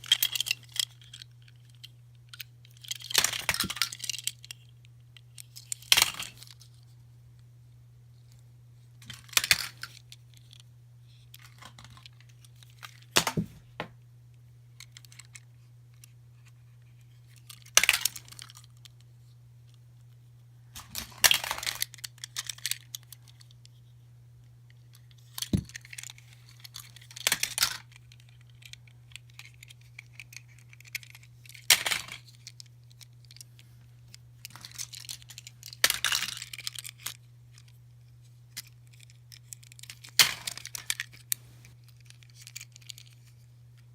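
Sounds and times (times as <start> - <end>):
plastic toys handled: 0.0 - 7.0, 8.2 - 13.9, 14.7 - 24.0, 24.7 - 43.9
faint low hum: 0.0 - 43.9.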